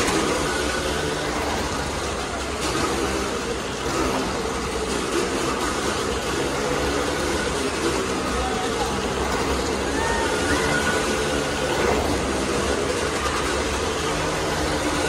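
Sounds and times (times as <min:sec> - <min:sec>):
motorcycle engine passing: 0:00.0 - 0:15.0.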